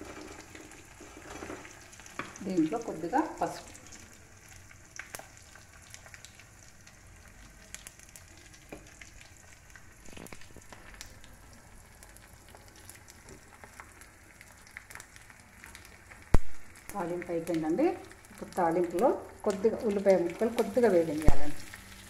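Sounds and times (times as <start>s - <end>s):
crackles: 0.0s - 22.0s
hot oil sizzling in pan: 0.0s - 22.0s.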